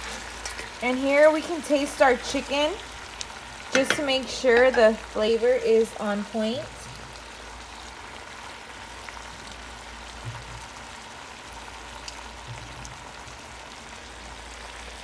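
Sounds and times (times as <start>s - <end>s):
chicken frying sizzle: 0.0s - 15.0s.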